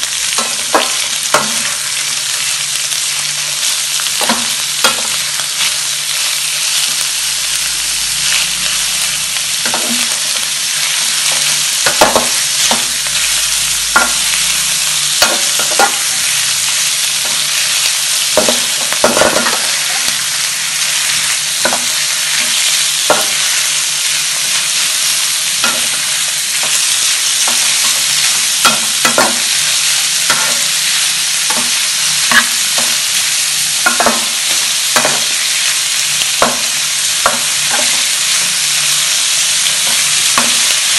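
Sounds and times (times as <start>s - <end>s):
food sizzling in a wok: 0.0s - 40.9s.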